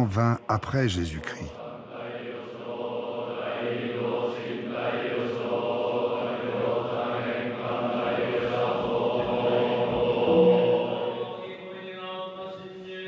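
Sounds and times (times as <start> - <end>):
monks chanting in monotone: 0.0 - 13.0.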